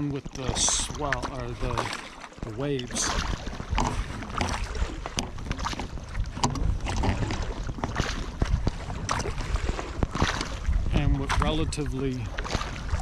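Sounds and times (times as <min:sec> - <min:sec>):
paddle splashing in water: 0:00.0 - 0:13.0
wind rumble on microphone: 0:00.0 - 0:13.0.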